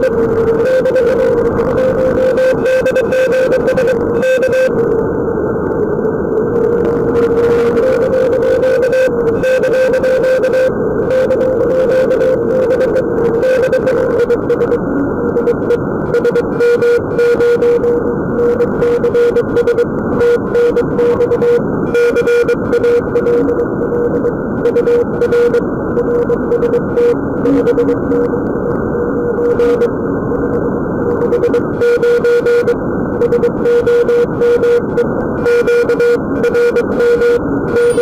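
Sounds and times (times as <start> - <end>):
morse code beeps: 0.0 - 4.8, 7.1 - 28.3, 29.4 - 29.9, 31.2 - 38.0
radio band noise hiss: 0.0 - 38.0.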